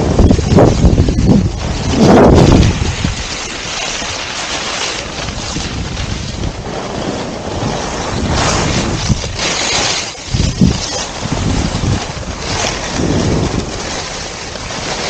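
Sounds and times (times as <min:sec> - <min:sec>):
skis scraping on packed snow: 0:00.0 - 0:15.0
wind buffeting microphone: 0:00.0 - 0:15.0.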